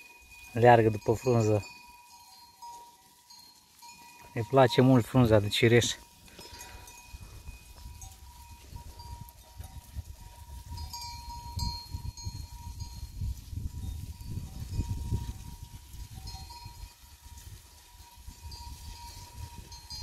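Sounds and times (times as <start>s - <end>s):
goat bells clinking: 0.0s - 20.0s.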